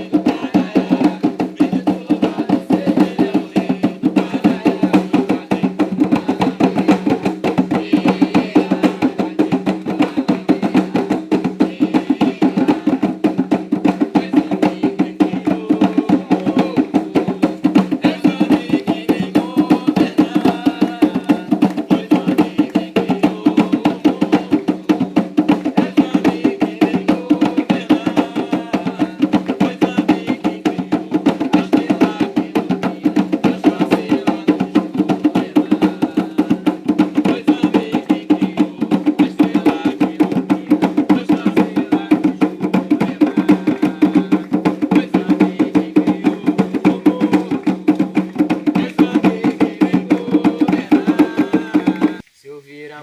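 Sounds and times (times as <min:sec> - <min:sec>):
fast hand drumming: 0:00.0 - 0:52.2.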